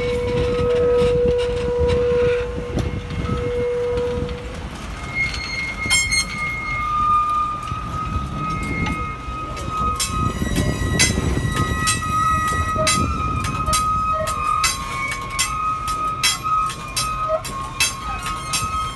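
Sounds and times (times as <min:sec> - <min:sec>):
high wheel squeal: 0:00.0 - 0:18.9
train wheels rumbling: 0:00.0 - 0:18.9
wheels clicking over rail joints: 0:00.0 - 0:18.9.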